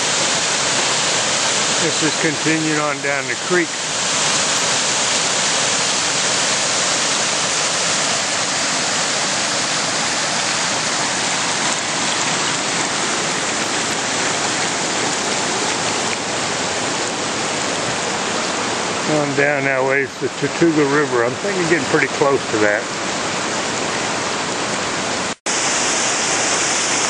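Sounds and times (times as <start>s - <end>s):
creek water rushing over rocks: 0.0s - 27.0s.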